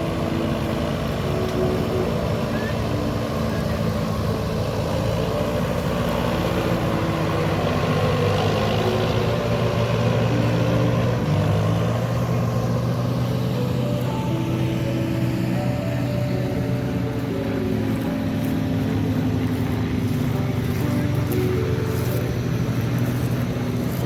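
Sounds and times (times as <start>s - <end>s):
other engines: 0.0s - 24.0s
tractor engine running: 0.0s - 24.0s.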